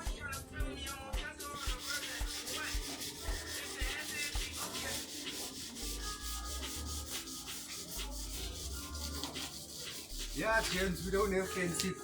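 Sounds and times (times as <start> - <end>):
sandpaper rubbing on metal: 1.4 - 12.0.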